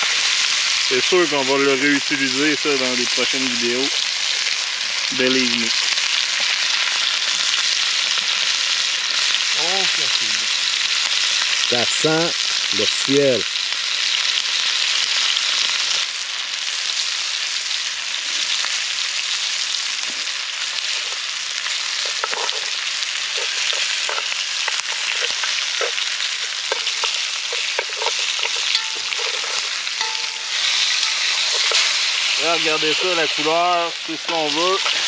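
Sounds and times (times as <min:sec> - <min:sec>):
meat sizzling in a frying pan: 0:00.0 - 0:35.0.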